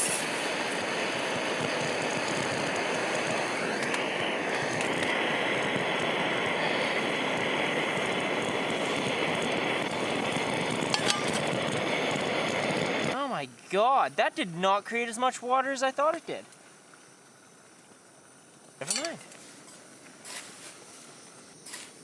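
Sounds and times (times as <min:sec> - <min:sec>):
camp stove burner hissing: 0:00.0 - 0:22.0.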